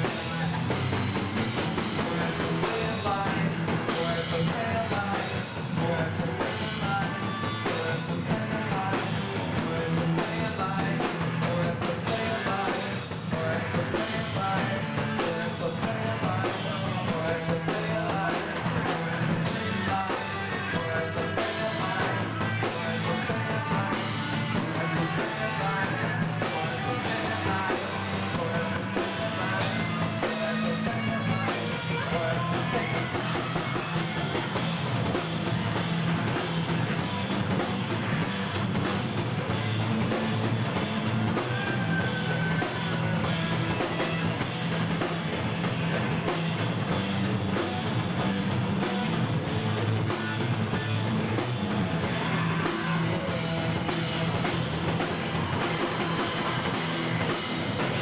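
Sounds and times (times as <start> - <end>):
person singing: 0.0 - 38.2, 39.4 - 46.1, 51.9 - 58.0
drum kit with cymbals: 0.0 - 58.0
electric guitar: 0.0 - 58.0.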